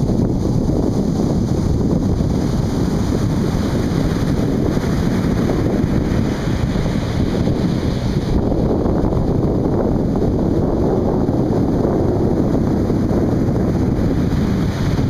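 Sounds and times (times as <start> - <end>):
surf washing on beach: 0.0 - 15.0
wind rumbling on microphone: 0.0 - 15.0.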